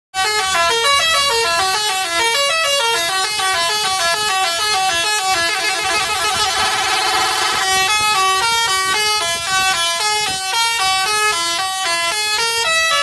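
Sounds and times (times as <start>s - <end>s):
musical bus horn melody: 0.2s - 13.0s.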